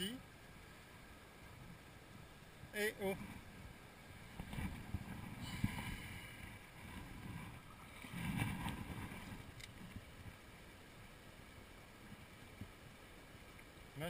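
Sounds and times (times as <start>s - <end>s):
mountain stream running: 0.0s - 14.0s
wind rumbling on microphone: 0.8s - 13.8s.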